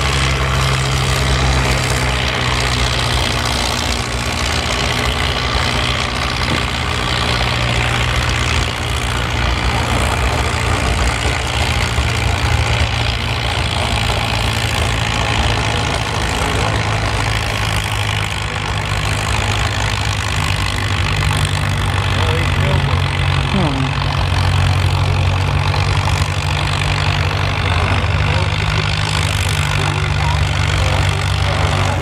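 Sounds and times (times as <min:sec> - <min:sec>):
tractor engine under heavy load: 0:00.0 - 0:32.0.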